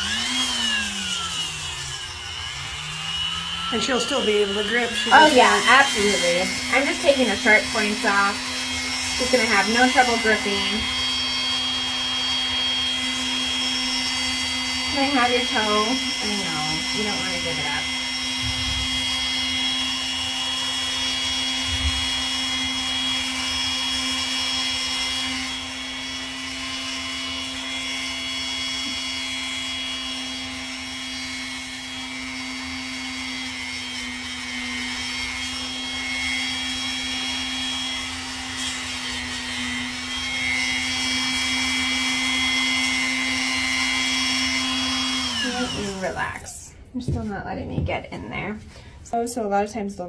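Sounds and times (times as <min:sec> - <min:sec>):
rotary tool grinding nail: 0:00.0 - 0:46.5.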